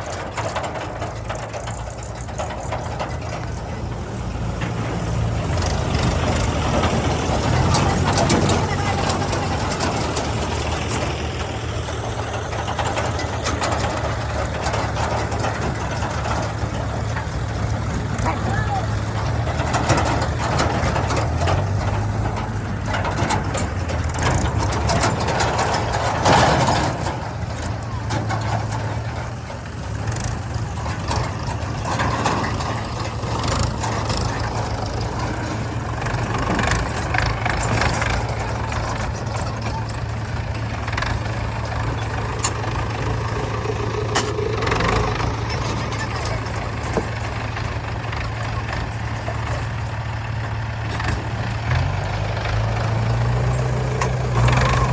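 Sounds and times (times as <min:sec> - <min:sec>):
backhoe knocks and clatters: 0:00.0 - 0:54.9
heavy diesel engine running: 0:00.0 - 0:54.9.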